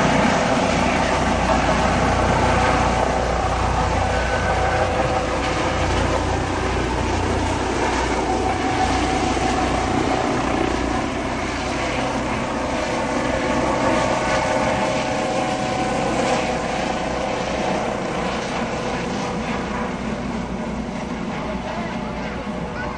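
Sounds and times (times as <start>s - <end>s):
helicopter rotor and turbine: 0.0s - 22.9s.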